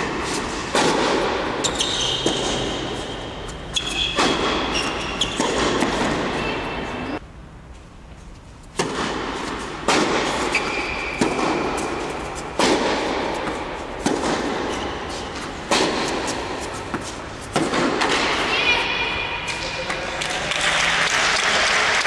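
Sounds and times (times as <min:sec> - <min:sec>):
tennis ball strikes echoing: 0:00.0 - 0:07.2, 0:08.7 - 0:19.8.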